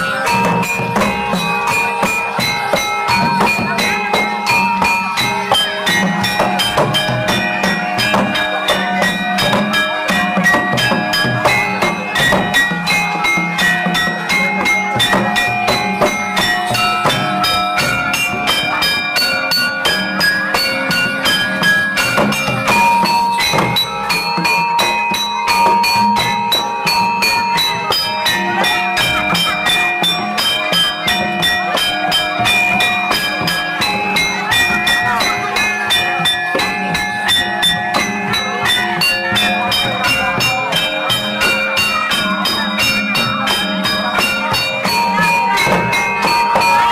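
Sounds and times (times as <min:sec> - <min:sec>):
metallophones and gongs ringing: 0:00.0 - 0:46.9.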